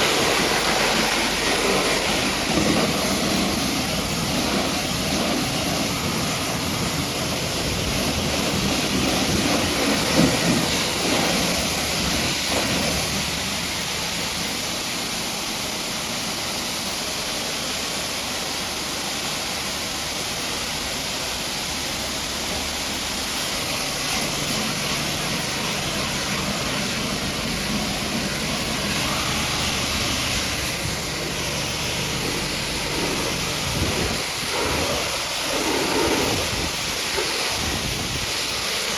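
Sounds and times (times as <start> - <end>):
pressure washer spraying: 0.0 - 38.9.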